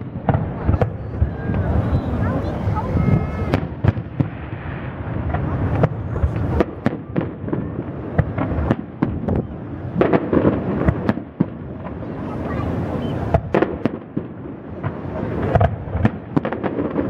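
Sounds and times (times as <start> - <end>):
distant fireworks bursting: 0.0 - 17.0.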